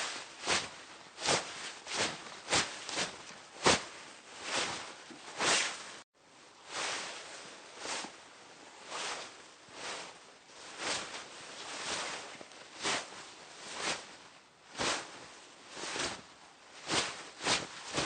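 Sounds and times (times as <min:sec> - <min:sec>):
fabric rustling swishes: 0:00.0 - 0:18.0.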